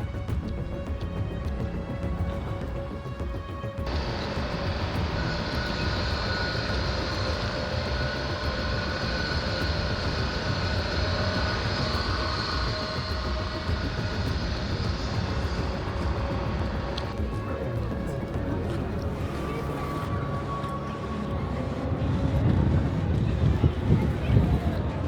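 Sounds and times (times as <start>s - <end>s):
steady vehicle noise: 0.0s - 25.0s.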